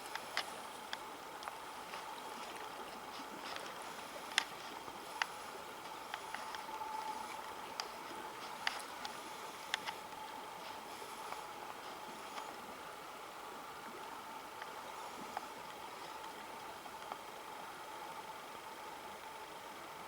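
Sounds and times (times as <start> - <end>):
river water running: 0.0 - 20.0.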